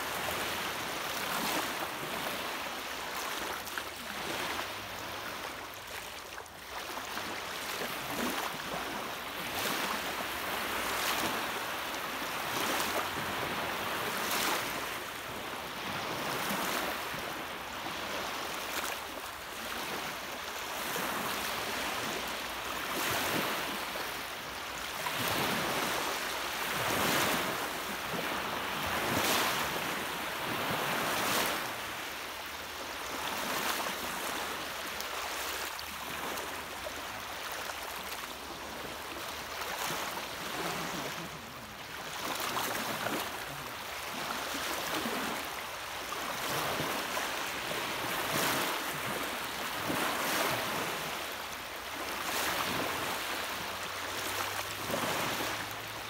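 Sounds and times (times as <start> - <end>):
small waves washing on shore: 0.0 - 56.0.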